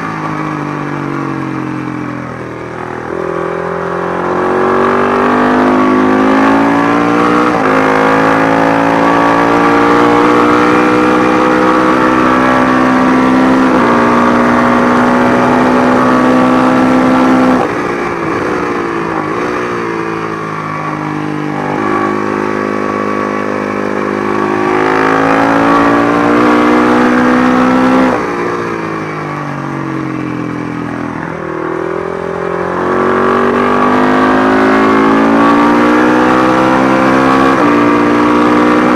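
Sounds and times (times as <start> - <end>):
racing motorcycle engine: 0.0 - 38.9.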